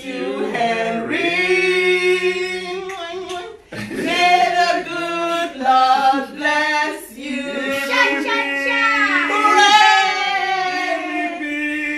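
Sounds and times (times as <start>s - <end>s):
family singing together: 0.0s - 11.9s.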